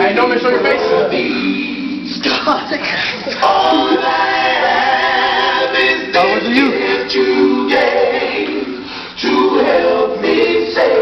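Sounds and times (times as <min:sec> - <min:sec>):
choir singing: 0:00.0 - 0:02.2, 0:03.3 - 0:11.0.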